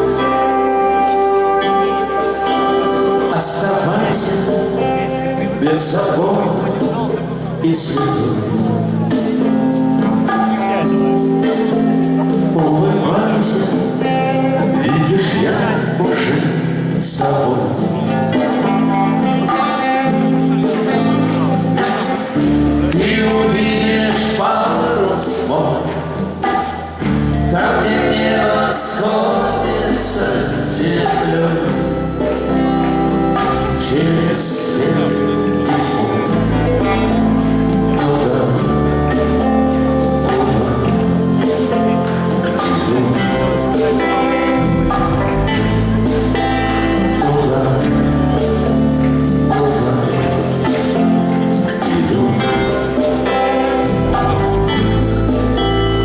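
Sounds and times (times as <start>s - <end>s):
person singing: 0.0s - 56.0s
rock band playing live: 0.0s - 56.0s.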